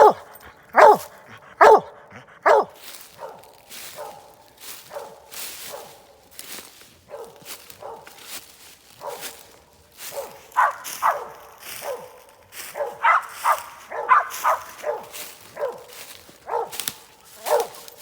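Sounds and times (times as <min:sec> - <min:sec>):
dog barking repeatedly: 0:00.0 - 0:06.1, 0:07.1 - 0:08.2, 0:09.0 - 0:09.4, 0:10.0 - 0:18.0.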